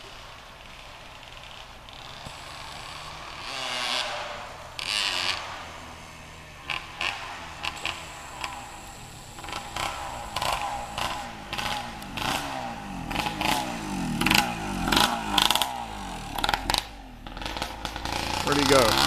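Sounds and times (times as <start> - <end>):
dirt bike engine revving: 0.7 - 19.0.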